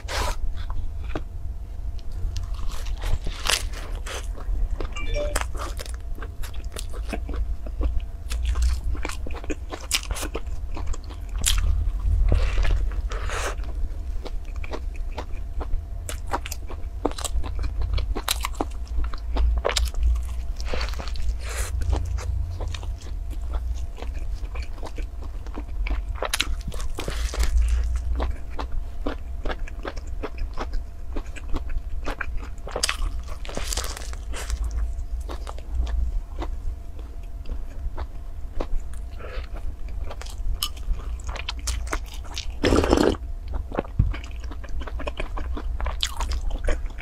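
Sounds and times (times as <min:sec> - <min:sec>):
crunching and chewing sandwich: 0:00.0 - 0:47.0
steady low rumble: 0:00.0 - 0:47.0.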